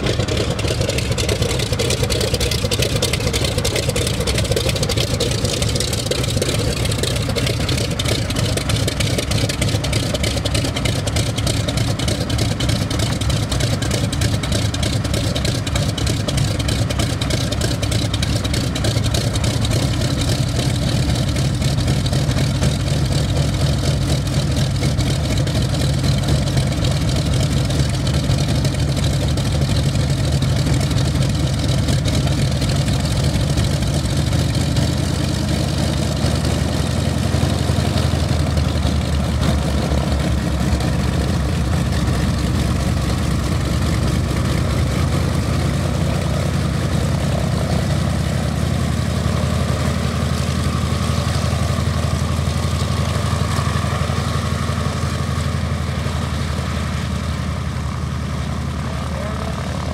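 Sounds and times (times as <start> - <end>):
aircraft radial engine idling: 0.0 - 59.9.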